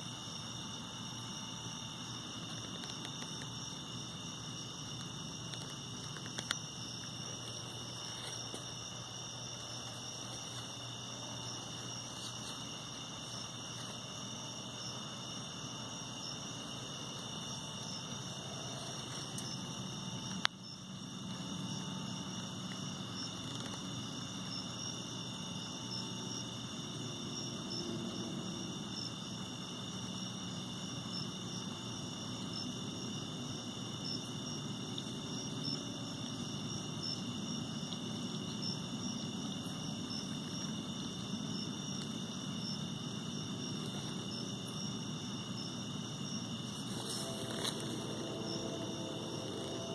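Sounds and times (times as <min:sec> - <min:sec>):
night insects trilling: 0:00.0 - 0:49.9.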